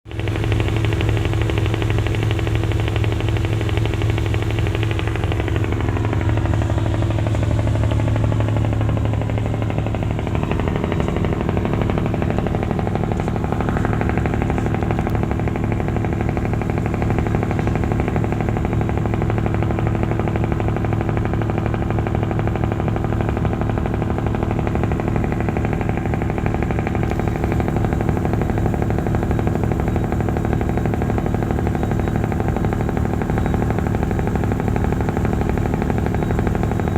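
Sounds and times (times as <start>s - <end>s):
diesel engine running: 0.1s - 36.9s.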